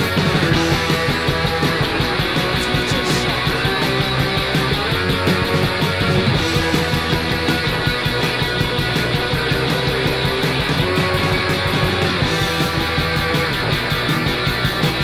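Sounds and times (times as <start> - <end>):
noise rock band playing: 0.0 - 15.0.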